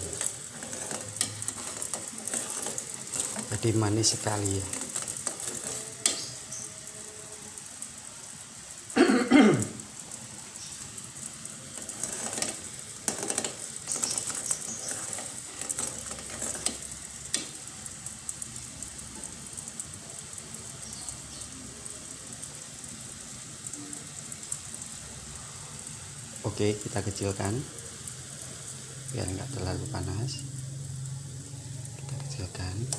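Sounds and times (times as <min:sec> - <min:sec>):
pot boiling and bubbling: 0:00.0 - 0:32.9.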